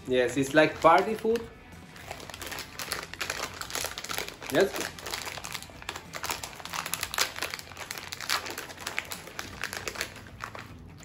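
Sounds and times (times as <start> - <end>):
plastic snack packet crinkling: 0.3 - 11.0.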